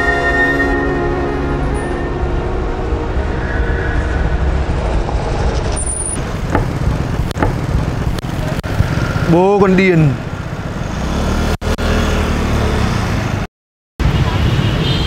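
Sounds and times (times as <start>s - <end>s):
low rumble of road traffic: 2.2s - 15.0s.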